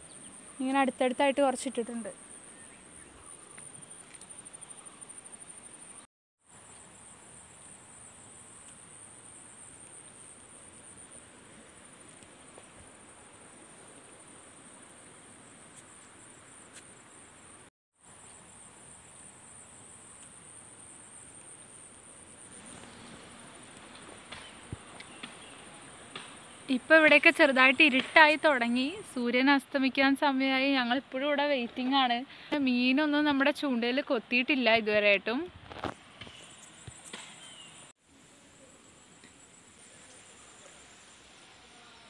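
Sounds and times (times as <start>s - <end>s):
insects trilling: 0.0s - 29.0s, 35.8s - 42.0s
soft outdoor hush: 0.0s - 42.0s.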